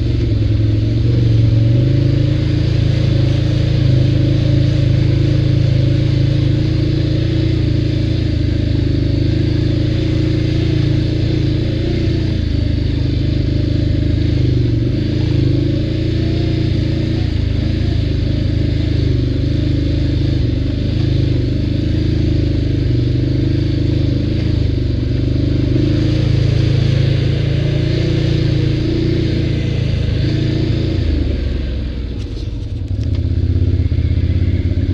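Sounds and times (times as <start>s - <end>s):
atv engine running: 0.0s - 34.9s
vehicle rattling over trail: 0.0s - 34.9s.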